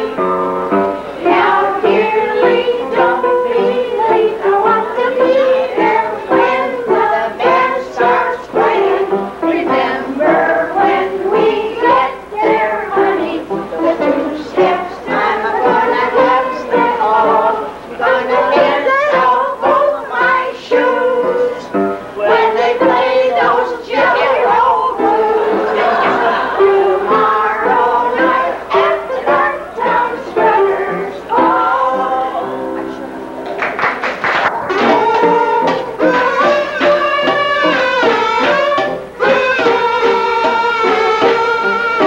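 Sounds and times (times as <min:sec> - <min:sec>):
kitchen band playing a tune: 0:00.0 - 0:42.0.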